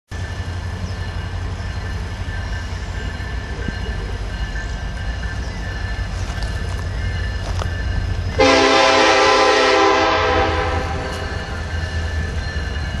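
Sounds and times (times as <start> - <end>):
freight train rumble: 0.1 - 13.0.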